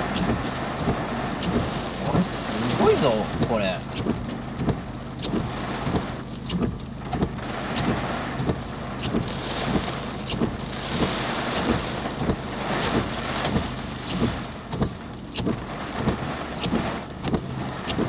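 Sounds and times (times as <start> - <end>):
heavy rain on a car: 0.0 - 18.0.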